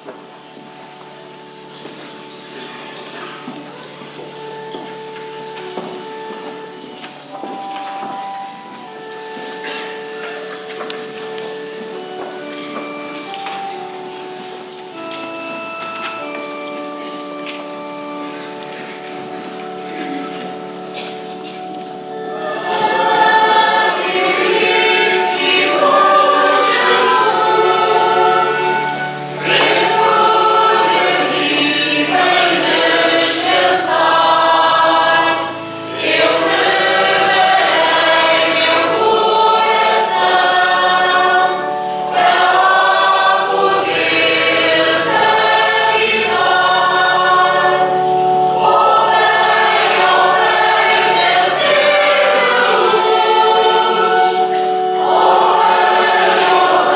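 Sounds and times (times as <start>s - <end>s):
choir singing a hymn: 0.0s - 56.9s
held low accompanying notes: 0.0s - 56.9s.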